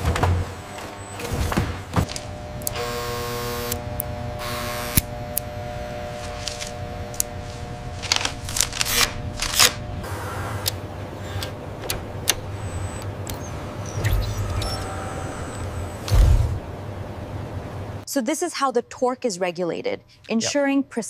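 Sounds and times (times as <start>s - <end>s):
machine whine: 0.0s - 18.0s
low machinery hum: 0.0s - 18.1s.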